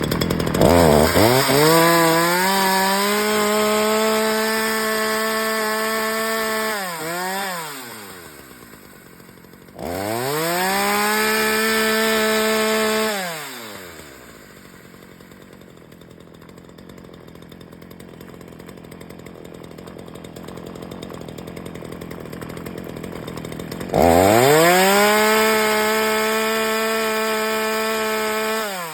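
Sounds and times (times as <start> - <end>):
chainsaw engine idling: 0.0 - 28.9
chainsaw revving: 0.0 - 28.9.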